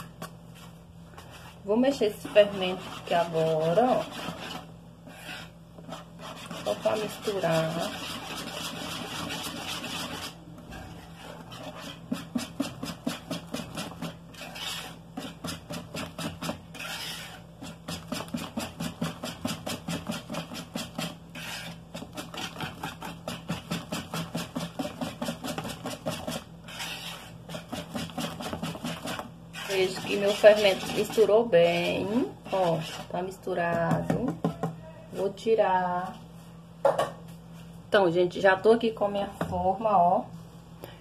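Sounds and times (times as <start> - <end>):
batter whisked in plastic bowl: 0.0 - 35.4.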